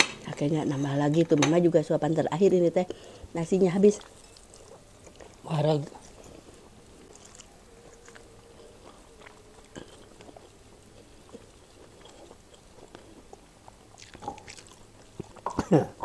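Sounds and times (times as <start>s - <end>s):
soft chewing: 2.9s - 15.8s.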